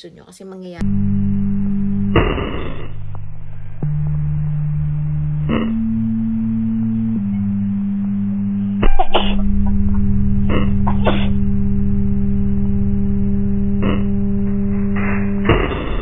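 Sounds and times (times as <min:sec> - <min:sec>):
droning music tone: 0:00.8 - 0:16.0.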